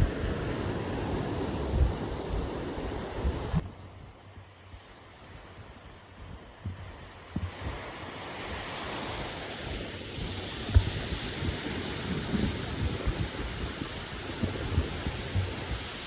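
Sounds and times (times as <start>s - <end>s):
surf washing on shore: 0.0s - 16.0s
wind buffeting microphone: 0.0s - 16.0s.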